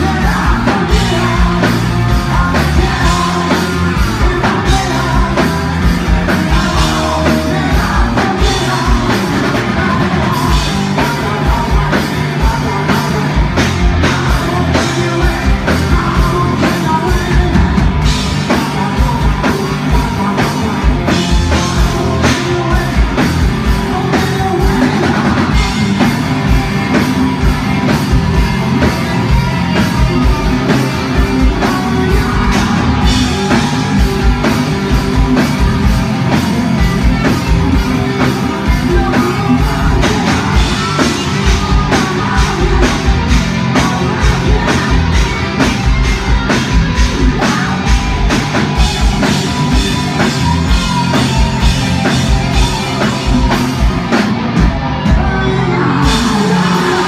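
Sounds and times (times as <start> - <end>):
hard rock band playing live: 0.0 - 57.0
person singing: 0.0 - 57.0.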